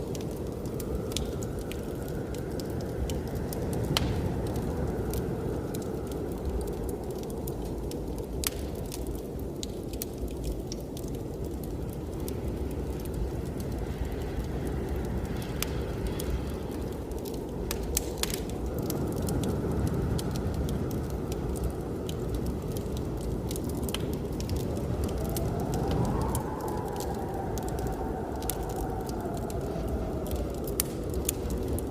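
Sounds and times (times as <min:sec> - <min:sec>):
blizzard wind rushing: 0:00.0 - 0:31.9
wood fire crackling: 0:00.0 - 0:31.9.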